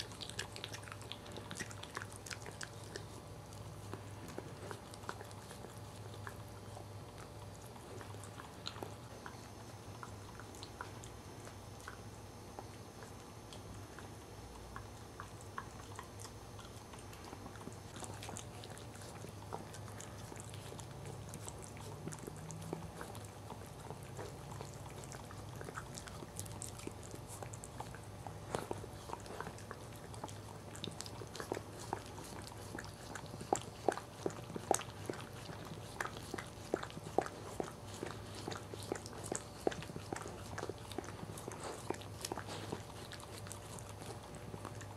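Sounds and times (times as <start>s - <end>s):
dog licking and chewing: 0.0s - 44.9s
steady low hum: 0.0s - 44.9s.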